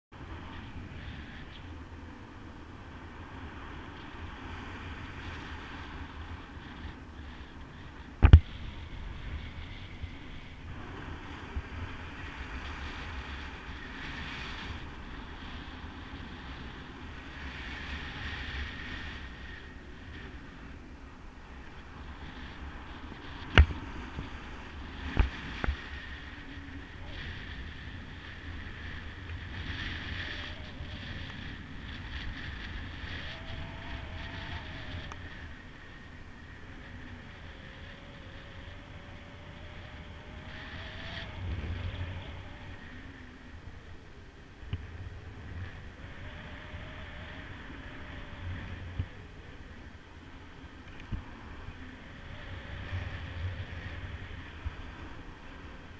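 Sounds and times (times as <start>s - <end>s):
wind buffeting microphone: 0.1s - 55.9s.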